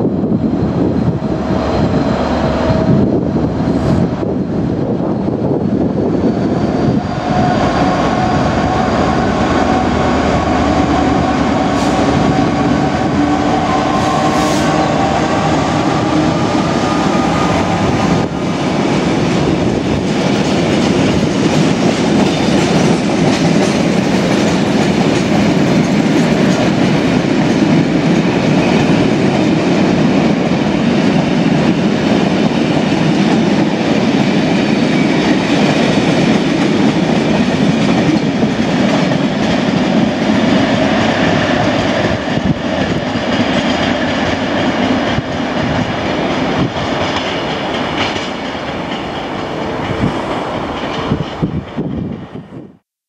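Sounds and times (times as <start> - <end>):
diesel locomotive engine droning: 0.0 - 52.1.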